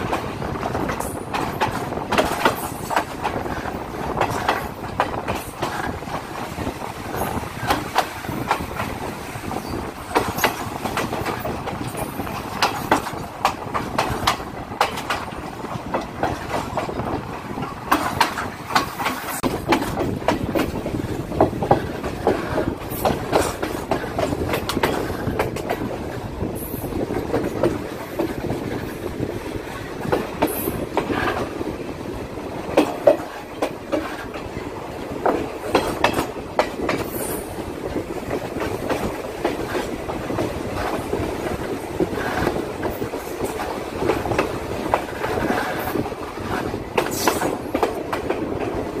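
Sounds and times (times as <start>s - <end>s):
train rumbling on rails: 0.0s - 49.0s
wheels clacking over rail joints: 0.0s - 49.0s.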